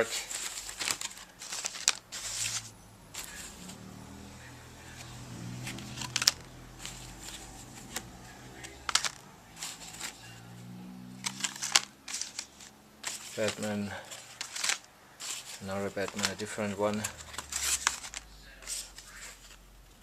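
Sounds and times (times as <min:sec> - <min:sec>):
plastic reels rustling and clicking: 0:00.0 - 0:20.0.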